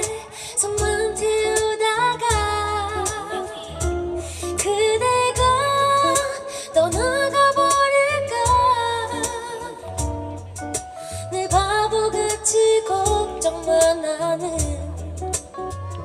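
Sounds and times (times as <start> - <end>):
woman singing: 0.0 - 10.5, 11.3 - 15.4.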